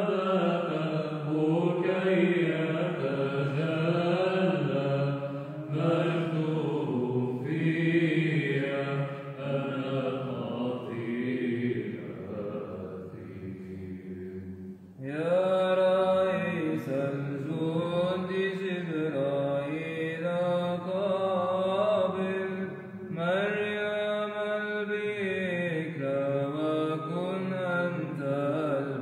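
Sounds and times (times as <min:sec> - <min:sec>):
melodic sung chant: 0:00.0 - 0:14.0, 0:15.0 - 0:29.0.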